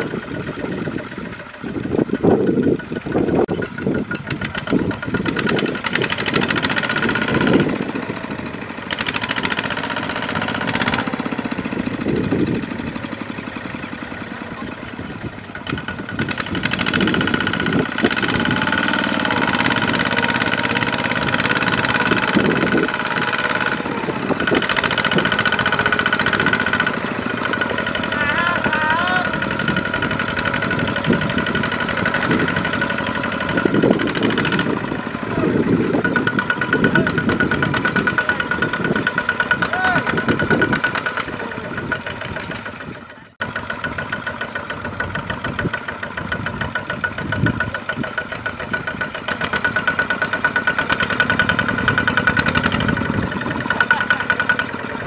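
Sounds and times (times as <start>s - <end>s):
diesel tractor engine under load: 0.0s - 55.0s.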